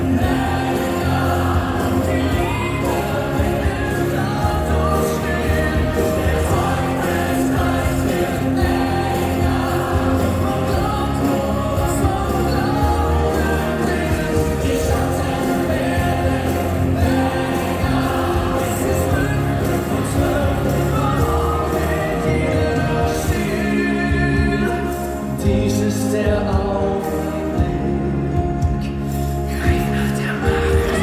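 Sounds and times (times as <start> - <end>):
music with singing: 0.0 - 31.0.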